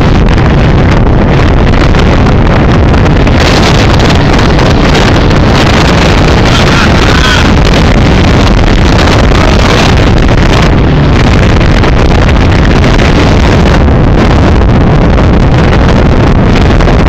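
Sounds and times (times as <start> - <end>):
speedboat engine and water roar: 0.0 - 17.0
wind buffeting microphone: 0.0 - 17.0.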